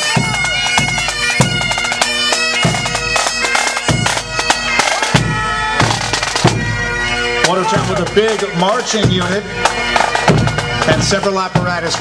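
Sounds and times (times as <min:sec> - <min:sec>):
bagpipes playing a tune: 0:00.0 - 0:12.0
drum beating: 0:00.0 - 0:12.0.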